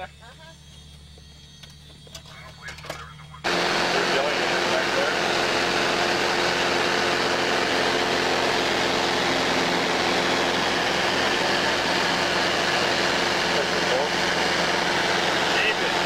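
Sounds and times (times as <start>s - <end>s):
light aircraft engine drone: 0.0s - 16.0s.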